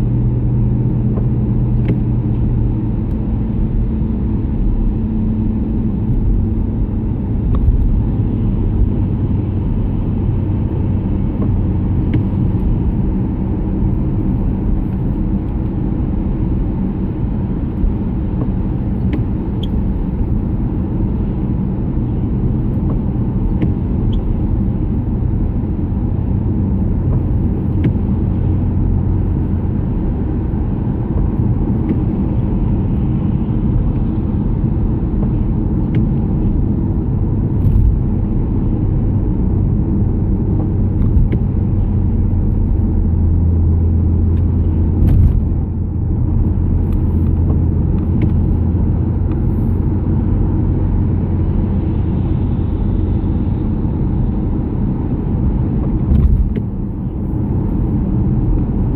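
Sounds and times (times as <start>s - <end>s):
car engine and tyres on wet road: 0.0s - 58.9s.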